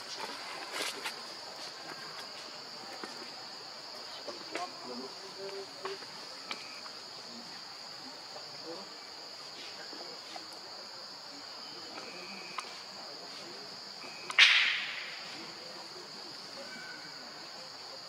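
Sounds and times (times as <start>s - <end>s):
forest insects droning: 0.0s - 18.0s.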